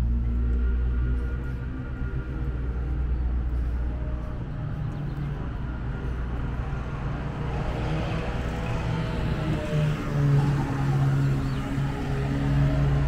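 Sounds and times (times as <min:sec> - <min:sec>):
motor vehicle rumble: 0:00.0 - 0:13.0
pitched hum: 0:00.0 - 0:13.0.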